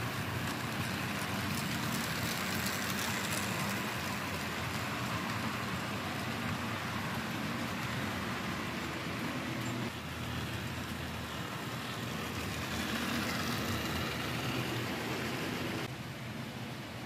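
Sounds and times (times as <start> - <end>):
model train motor whir: 0.0 - 15.9
wheels rolling on track: 0.0 - 17.0.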